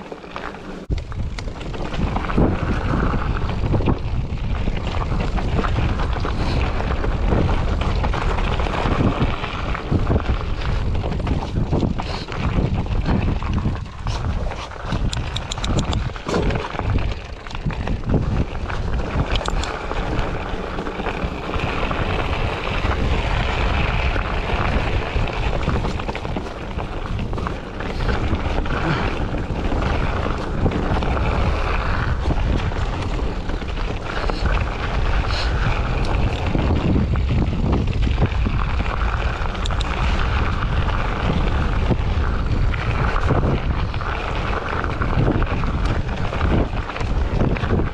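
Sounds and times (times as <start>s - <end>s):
wind buffeting microphone: 0.8s - 47.9s.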